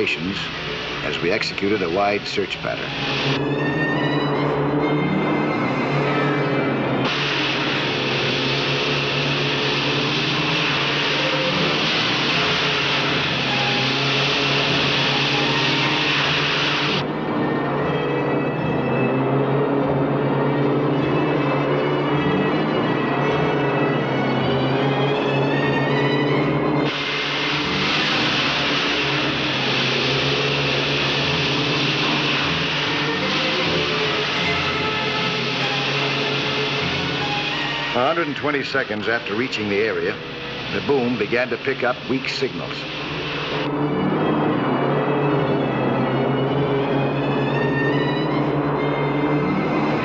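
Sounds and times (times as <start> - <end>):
hissing rushing spray: 0.0 - 17.1, 20.7 - 44.4
music: 0.0 - 50.0
motorboat engine drone: 2.8 - 38.6, 40.1 - 42.1, 42.8 - 50.0.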